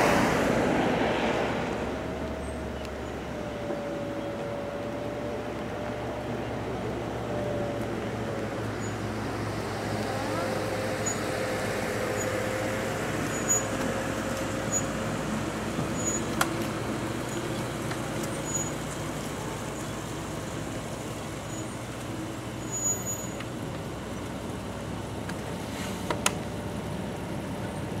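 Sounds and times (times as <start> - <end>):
vehicle hum: 0.0 - 28.0.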